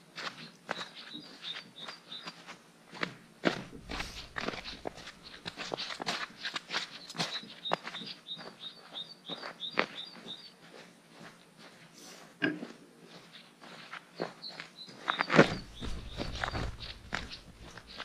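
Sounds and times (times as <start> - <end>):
footsteps crunching in snow: 0.2 - 18.0.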